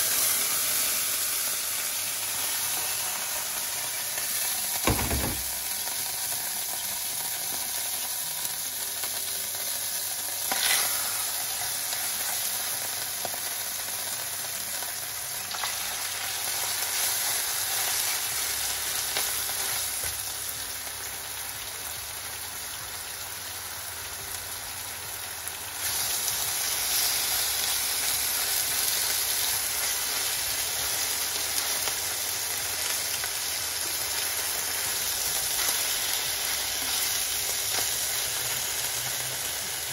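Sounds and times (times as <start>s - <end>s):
pork chops sizzling in a frying pan: 0.0s - 39.9s.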